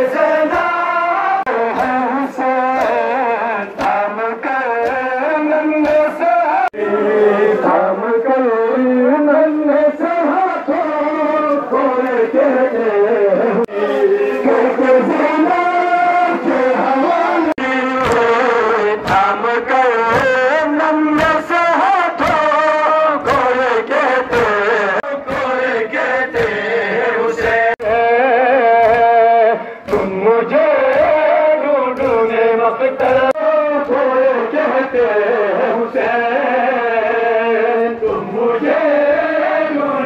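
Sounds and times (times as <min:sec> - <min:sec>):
men chanting a lament: 0:00.0 - 0:40.0.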